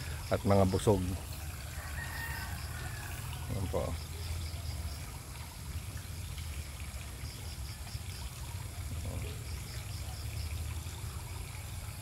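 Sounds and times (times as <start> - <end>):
water trickling into pond: 0.0 - 12.0.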